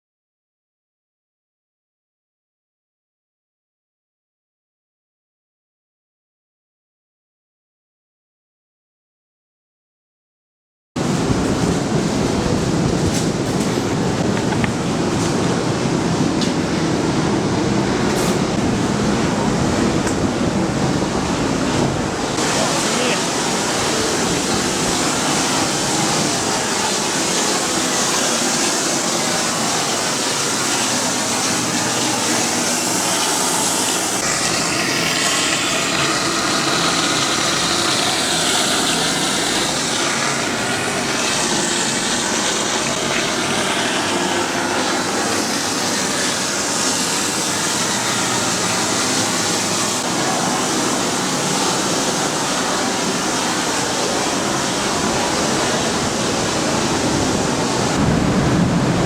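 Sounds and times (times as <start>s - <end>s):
ventilation fan air rushing: 11.0s - 59.0s.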